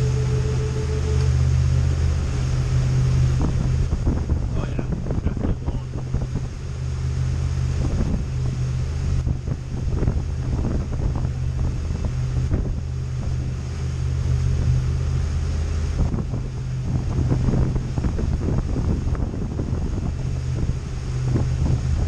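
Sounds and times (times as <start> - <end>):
boat engine humming: 0.0 - 22.0
wind buffeting microphone: 0.0 - 22.0.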